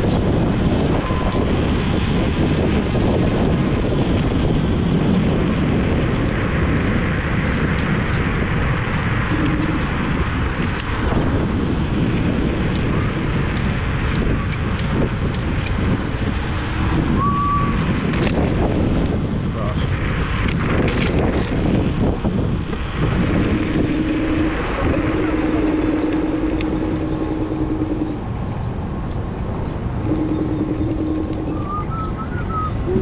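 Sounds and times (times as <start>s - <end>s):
scooter road and tyre noise: 0.0s - 33.0s
wind buffeting microphone: 0.0s - 33.0s.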